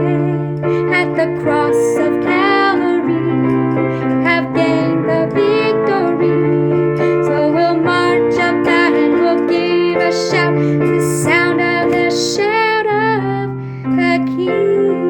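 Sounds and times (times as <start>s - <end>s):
keyboard chords: 0.0s - 15.0s.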